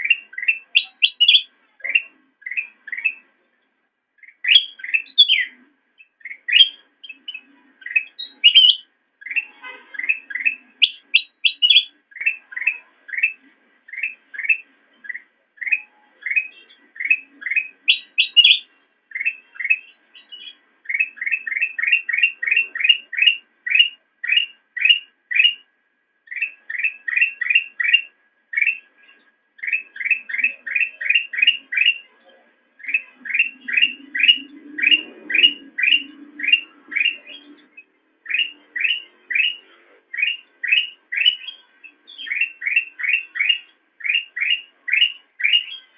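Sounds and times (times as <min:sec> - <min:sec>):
bulbul singing: 0:00.0 - 0:03.5, 0:04.2 - 0:45.9.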